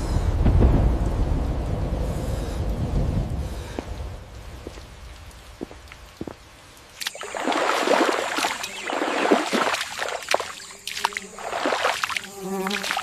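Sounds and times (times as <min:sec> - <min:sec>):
water splashing and sloshing: 0:02.3 - 0:13.0.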